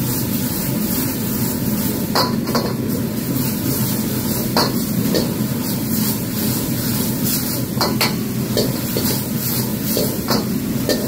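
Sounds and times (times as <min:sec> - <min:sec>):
gas burner humming: 0:00.0 - 0:11.0
sauce sizzling in a wok: 0:00.0 - 0:11.0.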